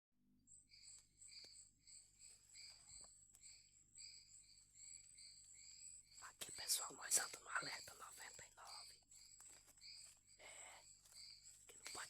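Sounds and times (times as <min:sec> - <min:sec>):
insect chirps: 0:00.4 - 0:12.0
insects trilling: 0:00.7 - 0:12.0.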